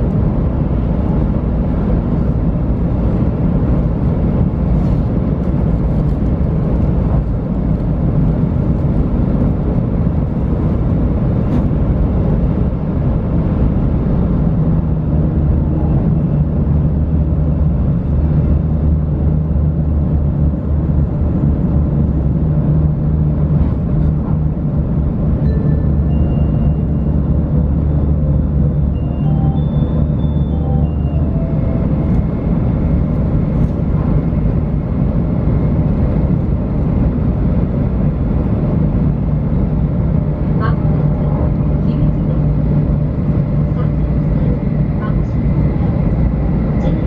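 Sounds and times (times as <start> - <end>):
low hums: 0.0 - 47.0.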